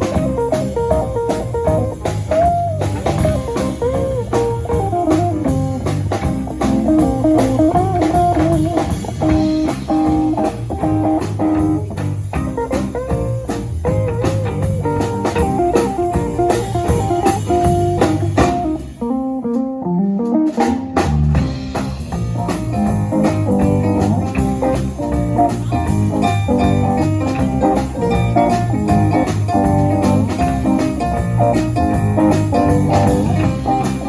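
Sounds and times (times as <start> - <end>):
guitar: 0.0 - 34.0
jazz combo playing swing: 0.0 - 34.0.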